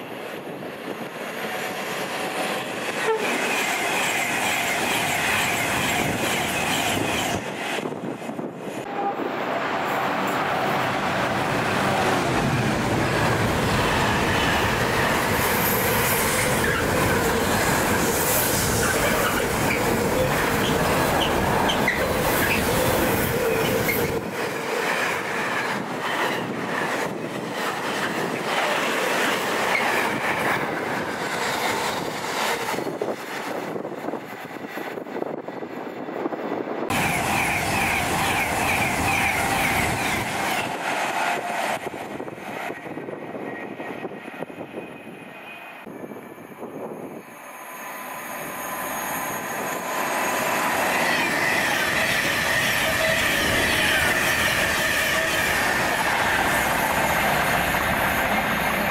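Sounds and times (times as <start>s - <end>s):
train wheels on rail: 0.0s - 58.9s.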